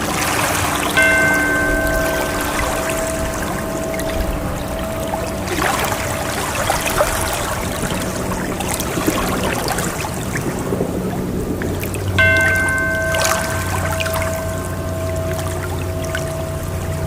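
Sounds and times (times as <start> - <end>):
singing bowl ringing: 0.0 - 10.0, 12.2 - 17.0
ocean waves washing in: 0.0 - 17.0.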